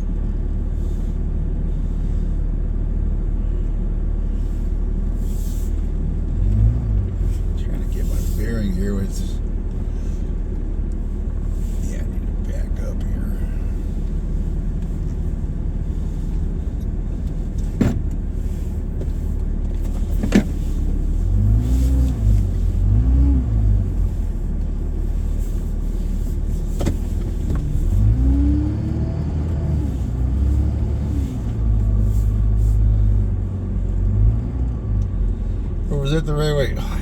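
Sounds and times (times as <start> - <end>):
vehicle engine revving: 4.4 - 37.0.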